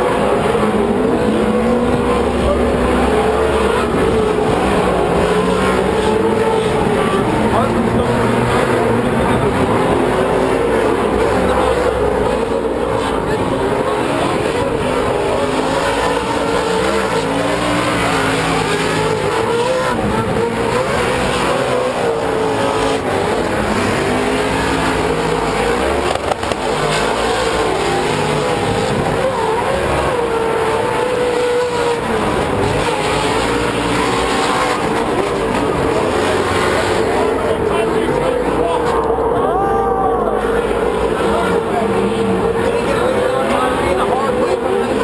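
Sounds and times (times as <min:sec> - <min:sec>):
race truck engines accelerating: 0:00.0 - 0:45.0.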